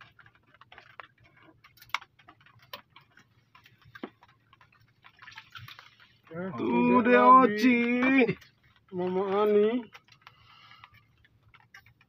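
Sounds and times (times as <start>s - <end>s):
faint clicks and taps: 0.0s - 12.0s.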